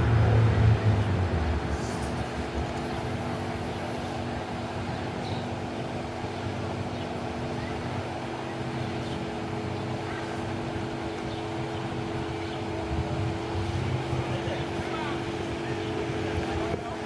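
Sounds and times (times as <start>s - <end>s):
car engine running low: 0.0s - 17.0s.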